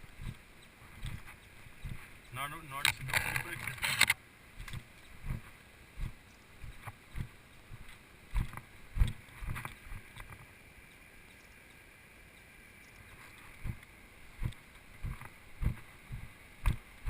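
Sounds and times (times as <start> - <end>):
footsteps on dirt trail: 0.0 - 10.5, 13.1 - 16.9
faint steady hiss: 0.0 - 17.0.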